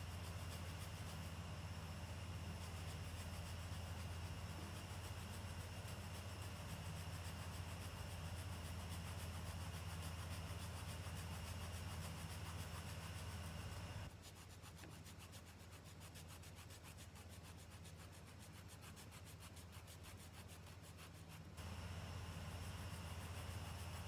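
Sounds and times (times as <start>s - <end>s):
steady low hum: 0.0s - 14.2s, 16.8s - 24.0s.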